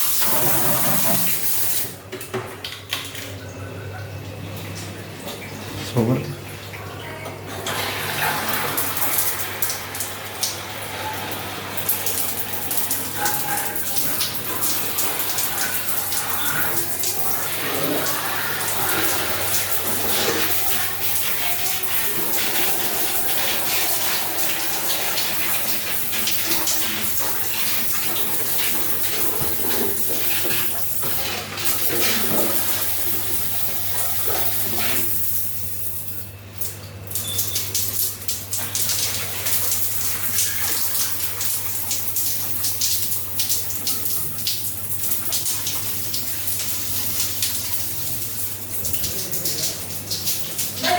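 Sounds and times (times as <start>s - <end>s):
water running from a tap: 0.0s - 50.9s.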